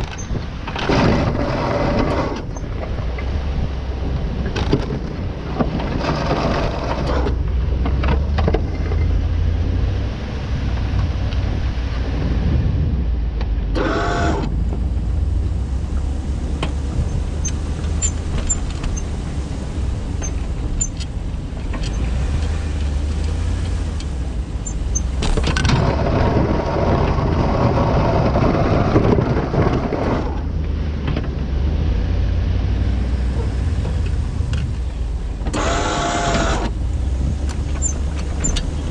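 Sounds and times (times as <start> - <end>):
road noise hiss: 0.0 - 38.9
vehicle engine and road rumble: 0.0 - 38.9.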